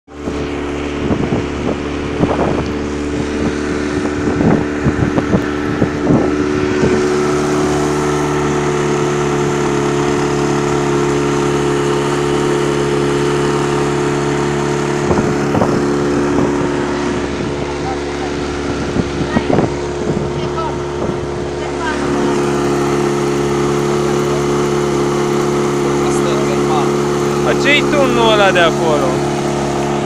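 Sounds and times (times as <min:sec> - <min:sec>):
motorboat engine running: 0:00.0 - 0:30.0
wind on microphone: 0:00.1 - 0:30.0.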